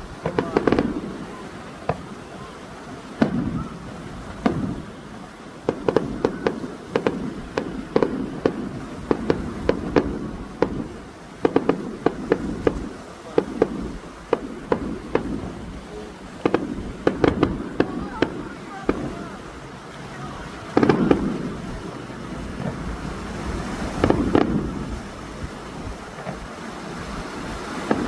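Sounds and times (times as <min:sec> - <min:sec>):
fireworks banging: 0:00.0 - 0:28.0
low rumble after bursts: 0:03.2 - 0:28.0.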